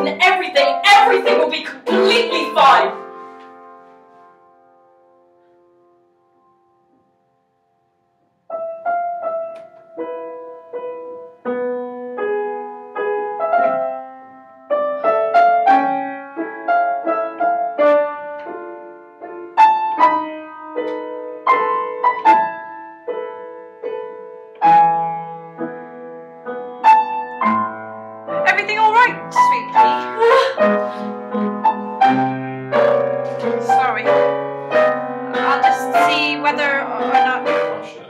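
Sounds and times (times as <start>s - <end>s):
upright piano playing: 0.0s - 38.0s.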